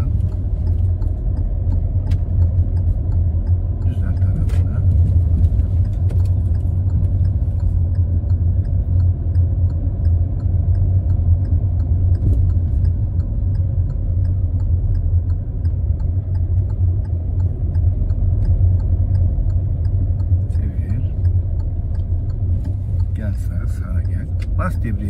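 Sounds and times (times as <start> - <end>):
car engine and road rumble: 0.0 - 25.0
turn signal ticking: 0.0 - 25.0.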